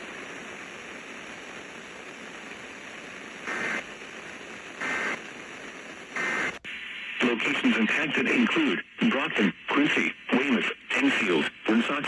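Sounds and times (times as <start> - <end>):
radio static: 0.0 - 12.0.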